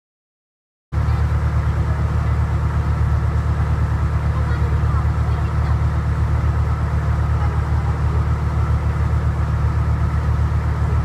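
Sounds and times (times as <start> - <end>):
boat engine droning: 1.0 - 11.0.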